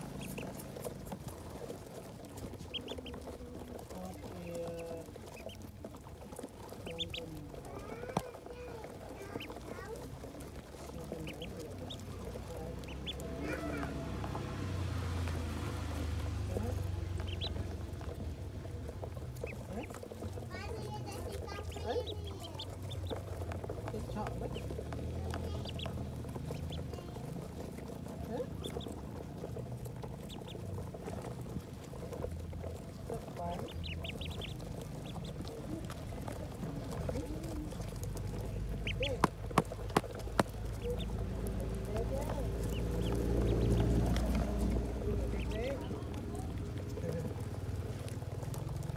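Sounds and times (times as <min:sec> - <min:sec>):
ducklings peeping: 0:00.0 - 0:48.9.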